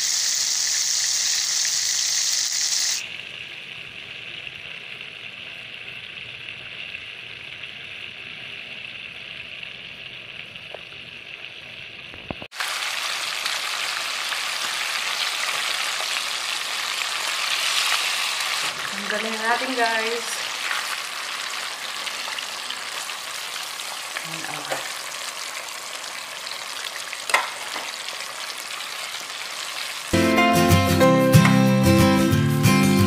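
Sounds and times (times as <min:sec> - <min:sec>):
chicken deep-frying in oil: 0:00.0 - 0:30.2.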